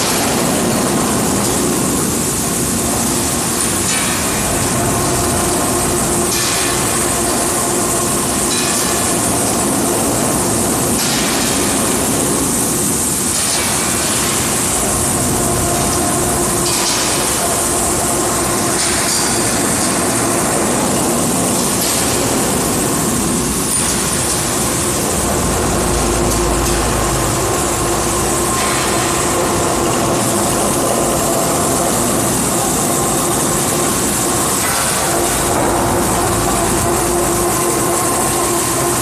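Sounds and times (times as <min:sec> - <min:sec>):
loud rushing noise: 0:00.0 - 0:39.0
machine hum: 0:00.0 - 0:39.0.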